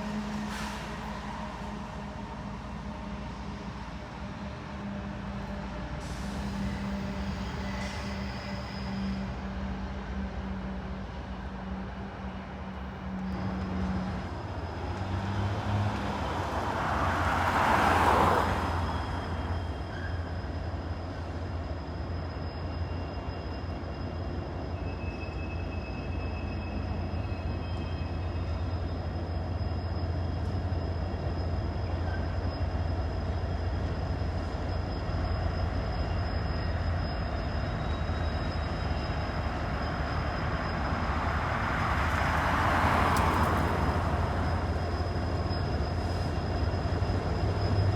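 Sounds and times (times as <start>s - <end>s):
freight train rolling past: 0.0s - 47.9s.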